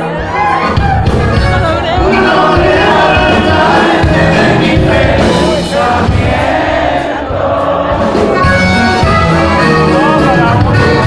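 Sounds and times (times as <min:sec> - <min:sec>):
live band music: 0:00.0 - 0:11.0
person singing: 0:00.0 - 0:11.0.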